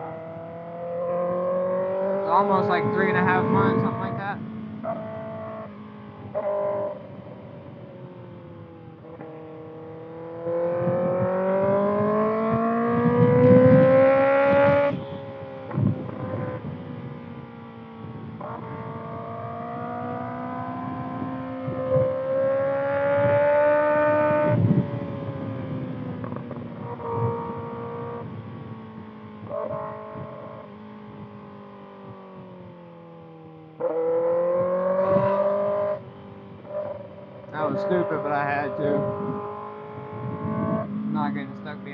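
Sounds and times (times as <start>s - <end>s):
motorcycle engine revving: 0.0s - 41.9s
wind noise on microphone: 1.6s - 32.8s, 33.8s - 41.9s.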